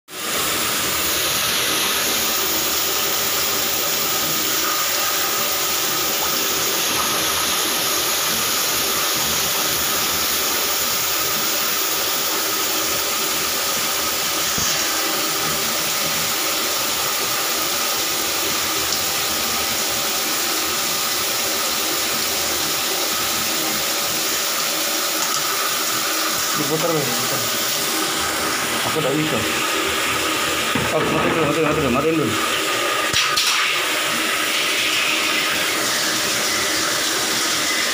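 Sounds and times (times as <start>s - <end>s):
drain cleaning machine running: 0.1s - 37.9s.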